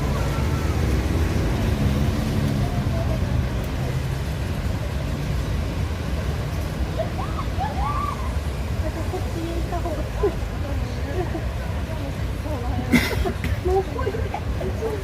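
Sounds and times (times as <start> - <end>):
traffic engine rumble: 0.0 - 15.0
voices: 0.0 - 15.0.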